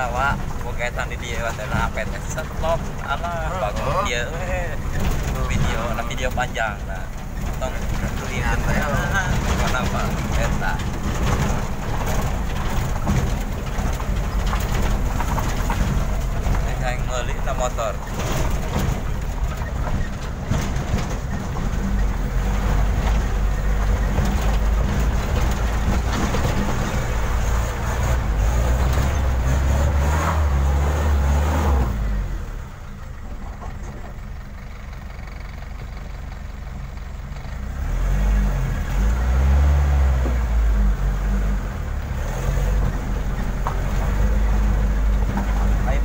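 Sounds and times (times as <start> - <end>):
car engine from inside cabin: 0.0 - 46.0
knocks and rattles: 0.0 - 46.0.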